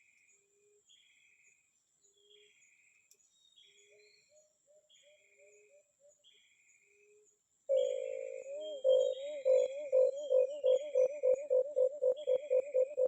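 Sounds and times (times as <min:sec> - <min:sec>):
bird calls and chirps: 0:00.0 - 0:13.0.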